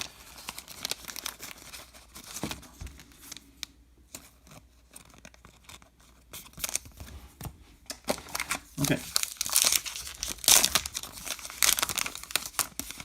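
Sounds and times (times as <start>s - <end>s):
wrapper crinkling and tearing: 0.0s - 7.0s, 8.0s - 13.0s.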